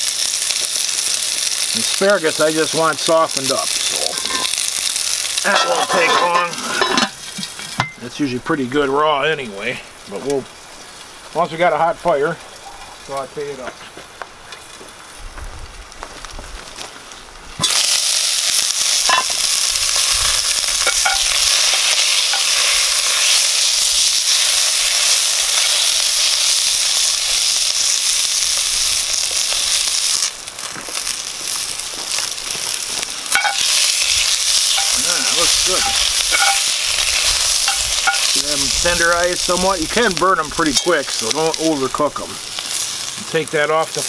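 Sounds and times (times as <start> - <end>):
vegetables sizzling in a pan: 0.0 - 44.0.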